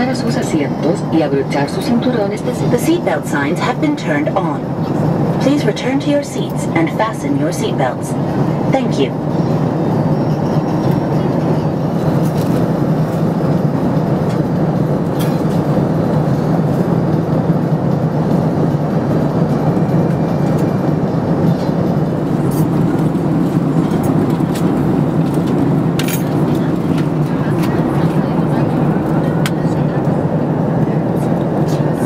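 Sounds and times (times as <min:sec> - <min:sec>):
airliner cabin engine rush: 0:00.0 - 0:32.0.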